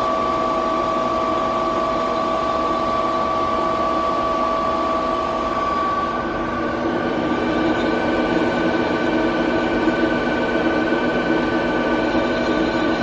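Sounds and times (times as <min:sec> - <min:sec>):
lathe machine whine: 0:00.0 - 0:13.0.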